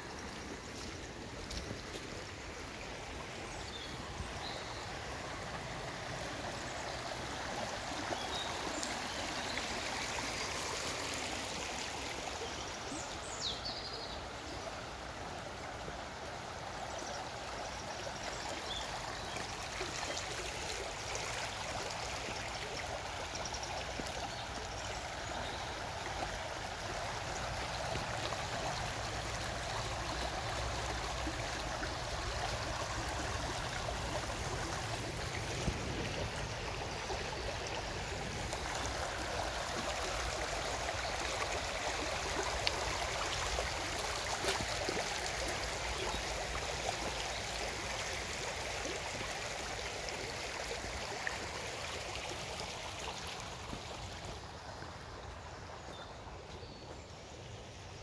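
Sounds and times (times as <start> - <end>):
brook flowing: 0.0 - 58.0.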